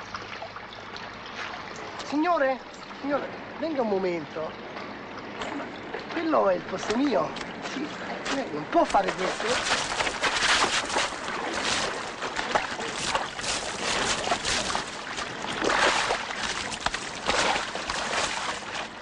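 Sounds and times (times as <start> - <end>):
water splashing in a fountain basin: 0.0 - 19.0.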